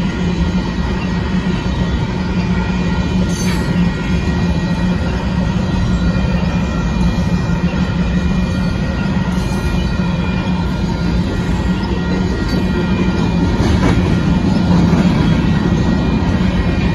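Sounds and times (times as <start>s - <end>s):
train wheels rumbling on rail: 0.0s - 16.9s
high wheel squeal: 0.9s - 16.9s.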